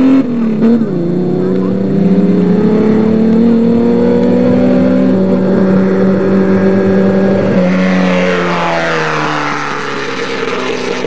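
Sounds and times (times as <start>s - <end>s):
buggy engine at high revs: 0.0s - 11.0s.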